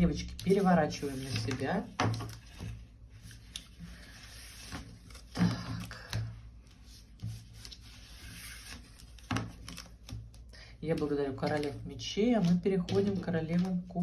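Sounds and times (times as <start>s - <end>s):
cards rustling on a table: 0.0s - 14.0s.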